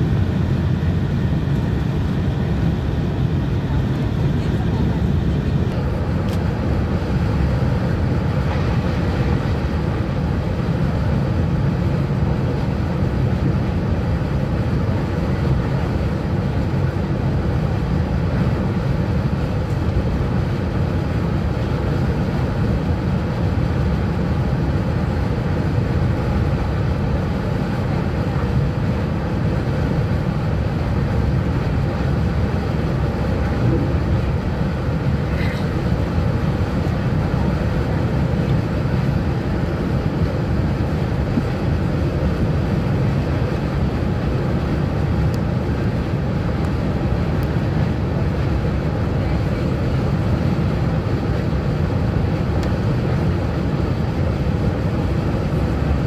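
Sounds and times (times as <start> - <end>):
train rumble inside coach: 0.0 - 56.0.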